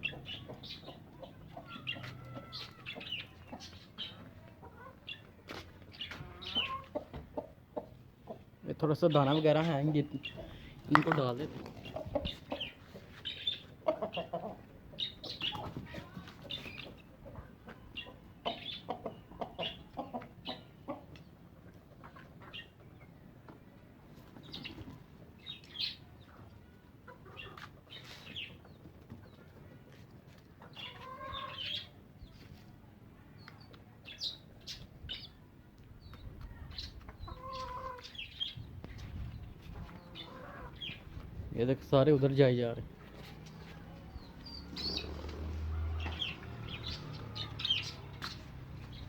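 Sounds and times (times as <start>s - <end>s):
chicks peeping: 0.0s - 32.6s, 36.0s - 49.0s
chickens clucking: 0.0s - 32.7s, 33.4s - 49.0s.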